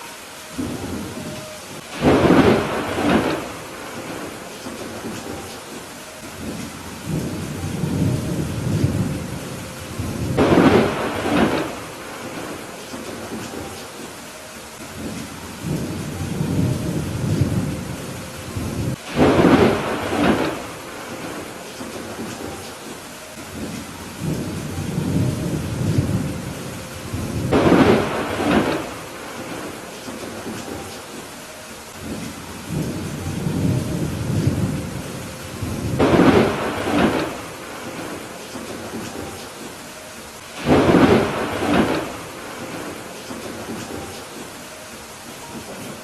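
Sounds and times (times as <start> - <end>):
steady rain: 0.0 - 46.0
thunder rumbling: 0.0 - 46.0
loud thunder crack: 0.6 - 5.8, 6.4 - 13.7, 15.0 - 22.6, 23.5 - 30.8, 32.0 - 39.4, 40.6 - 44.1.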